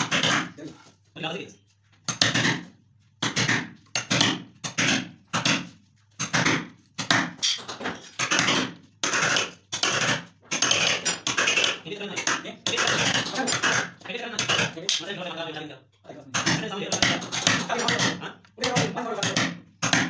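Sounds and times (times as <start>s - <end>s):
hammer striking chisel: 0.0s - 0.6s, 2.0s - 15.1s, 16.3s - 20.0s.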